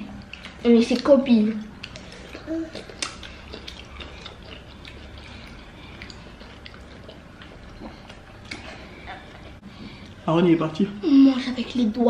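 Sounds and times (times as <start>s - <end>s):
people chewing with clicks and smacks: 0.0s - 12.0s.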